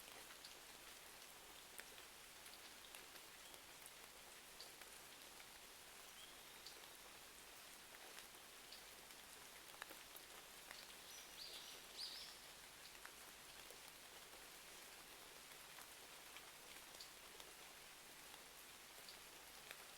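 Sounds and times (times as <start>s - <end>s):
rain hiss: 0.0s - 19.9s.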